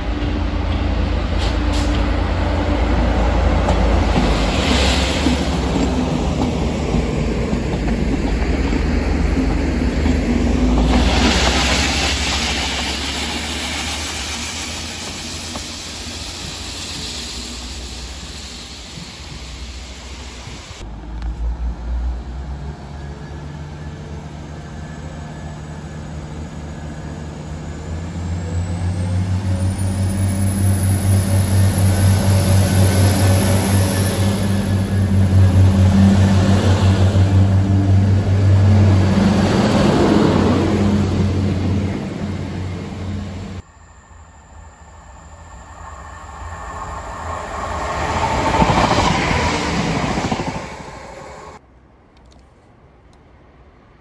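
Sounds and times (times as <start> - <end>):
train passing on rails: 0.0 - 54.0.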